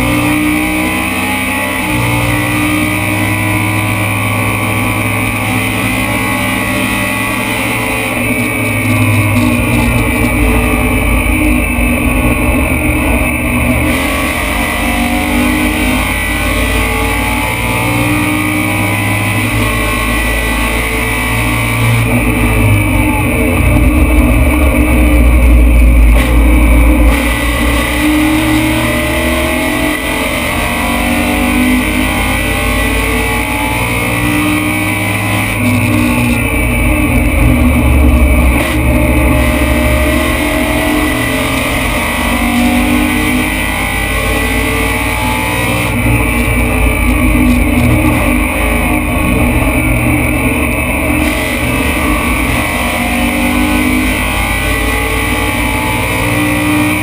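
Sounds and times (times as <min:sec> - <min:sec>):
racing engine revving: 0:00.0 - 0:57.0.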